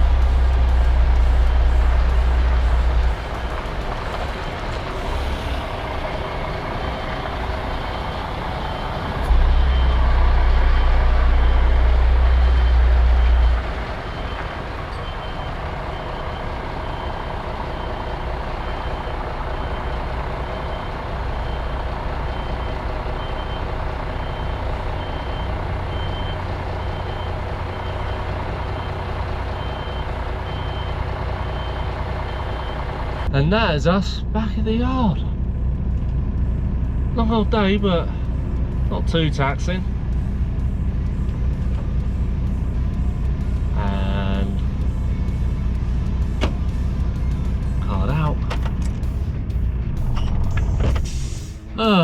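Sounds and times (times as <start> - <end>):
truck reversing alarm beeps: 0.0 - 33.3, 36.3 - 48.4
diesel engine rumble: 0.0 - 52.0.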